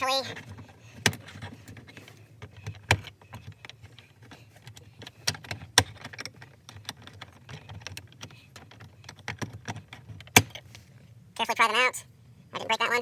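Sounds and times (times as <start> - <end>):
plastic clicks and scrapes: 0.2 - 10.8.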